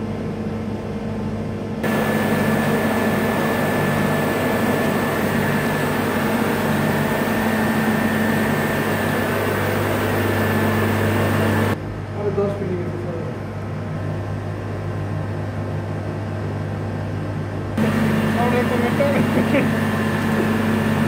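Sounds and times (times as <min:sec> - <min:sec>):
high machinery whine: 0:00.0 - 0:21.0
low machinery hum: 0:00.0 - 0:21.0.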